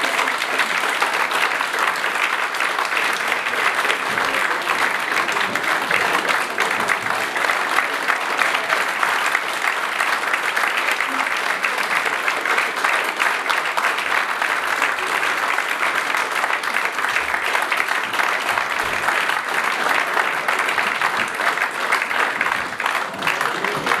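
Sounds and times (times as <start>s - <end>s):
audience applause: 0.0s - 24.0s.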